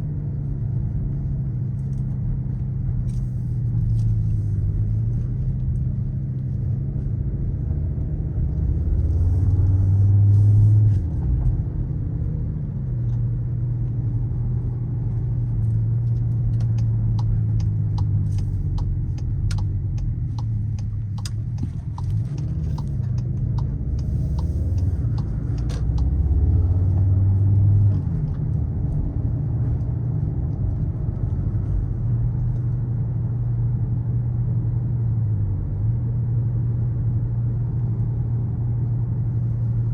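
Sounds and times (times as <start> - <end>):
car engine and exhaust running: 0.0 - 39.9
road noise: 0.0 - 39.9.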